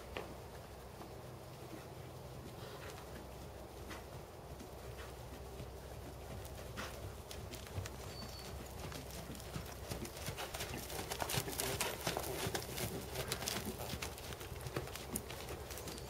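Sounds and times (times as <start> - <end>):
horse hoofbeats on sand: 0.0 - 16.0.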